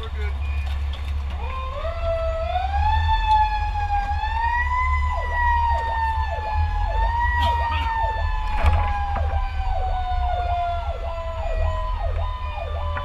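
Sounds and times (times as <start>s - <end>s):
truck engine rumble: 0.0s - 13.0s
fast sweeping siren tone: 1.4s - 13.0s
fire truck siren winding: 1.4s - 13.0s.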